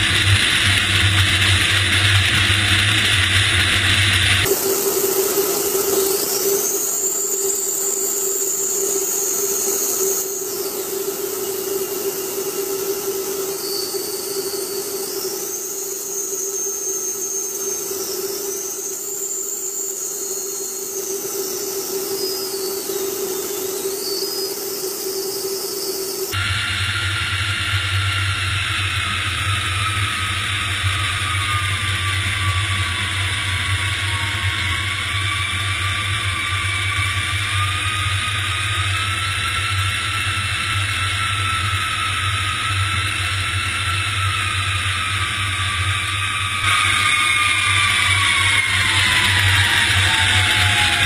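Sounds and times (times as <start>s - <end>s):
high whine: 0.0s - 51.0s
jet engine noise: 0.0s - 51.0s
low drone with hiss: 0.0s - 51.0s.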